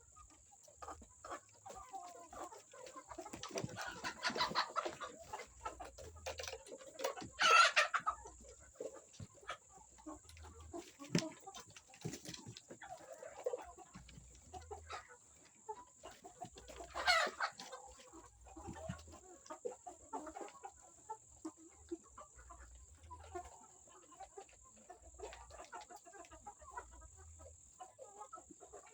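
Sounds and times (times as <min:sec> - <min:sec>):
chickens clucking and calling: 0:00.0 - 0:28.9.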